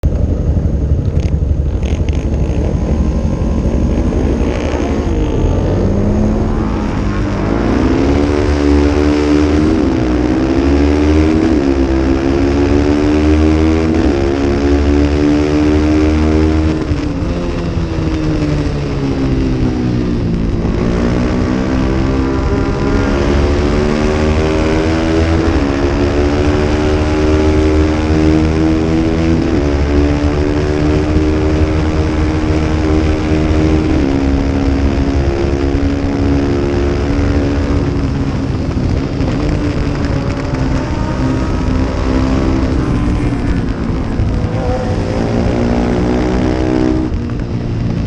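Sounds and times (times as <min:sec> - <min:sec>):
racing motorcycle engine revving: 0:00.0 - 0:48.0.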